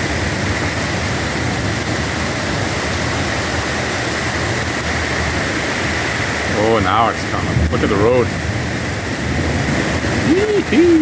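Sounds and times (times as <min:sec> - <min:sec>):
heavy rain pouring: 0:00.0 - 0:11.0
wind rumble on microphone: 0:00.0 - 0:11.0.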